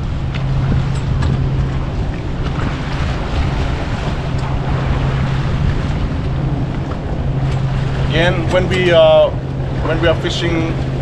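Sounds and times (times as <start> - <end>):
water washing against boat: 0.0 - 11.0
wind buffeting microphone: 0.0 - 11.0.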